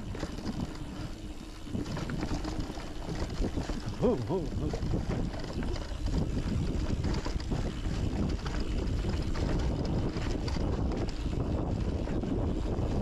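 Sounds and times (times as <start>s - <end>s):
bike clicks and rattles: 0.0s - 13.0s
tyres rumbling on dirt: 0.0s - 13.0s
wind buffeting microphone: 0.0s - 13.0s.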